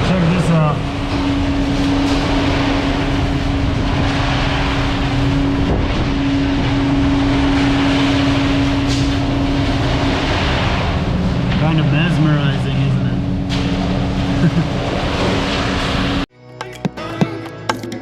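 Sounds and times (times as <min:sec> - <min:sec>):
heavy diesel engine droning: 0:00.0 - 0:17.8.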